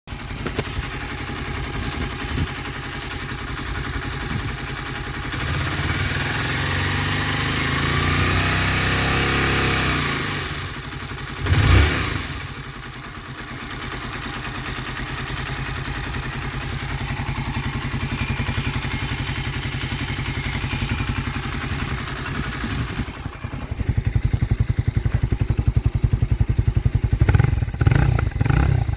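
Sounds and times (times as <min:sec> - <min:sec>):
motorcycle engine running: 0:00.1 - 0:28.9.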